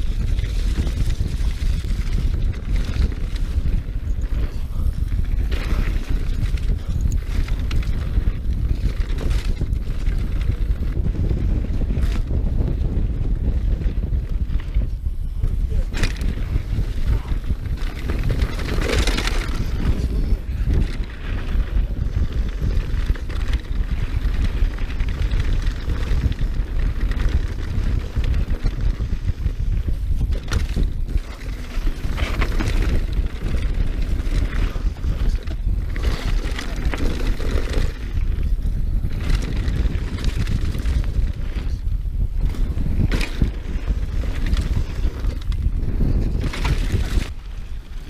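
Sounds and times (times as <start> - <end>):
bike tyres rumbling over ground: 0.0 - 48.0
wind buffeting microphone: 0.0 - 48.0.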